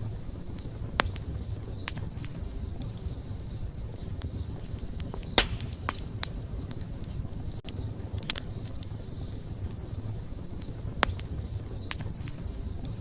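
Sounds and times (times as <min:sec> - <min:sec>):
burning wood crackles and pops: 0:00.0 - 0:13.0
wood fire rumble: 0:00.0 - 0:13.0.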